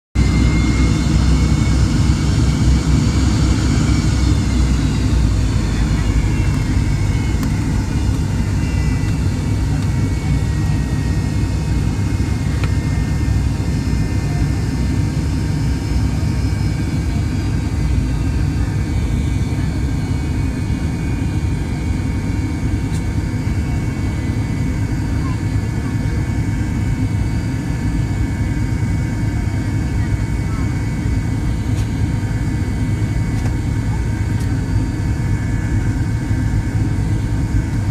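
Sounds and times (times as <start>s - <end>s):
aircraft cabin engine rumble: 0.2s - 37.9s
engine whines: 0.2s - 37.9s.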